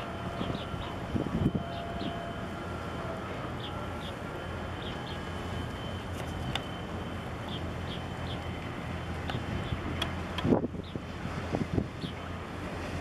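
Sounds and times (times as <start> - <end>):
boat engines rumbling: 0.0 - 13.0
bow wash: 0.0 - 13.0.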